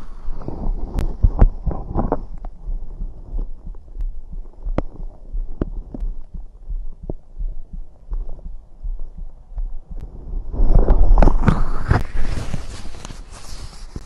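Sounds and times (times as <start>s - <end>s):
stomach gurgling: 0.0s - 14.0s.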